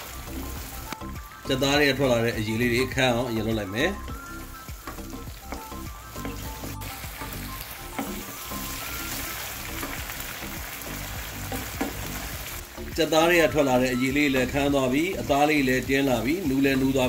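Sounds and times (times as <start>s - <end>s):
food sizzling in oil: 0.0s - 17.0s
soft background music: 0.0s - 17.0s.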